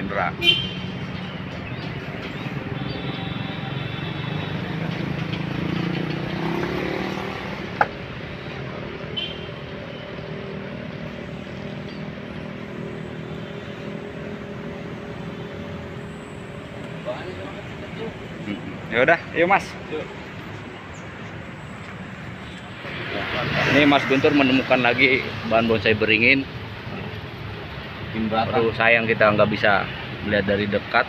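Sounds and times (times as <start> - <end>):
road traffic: 0.0 - 31.0
motor vehicle passing: 0.8 - 9.0, 10.2 - 30.8.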